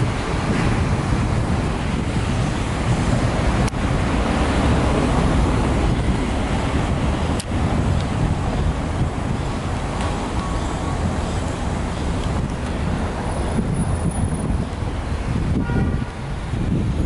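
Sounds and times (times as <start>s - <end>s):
street traffic: 0.0s - 17.0s
wind buffeting microphone: 0.0s - 17.0s.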